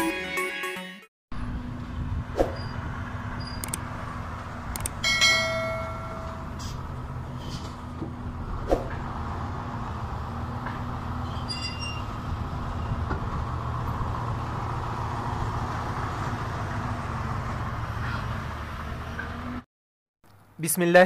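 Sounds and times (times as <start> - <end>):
excavator diesel engine running: 1.4 - 19.6.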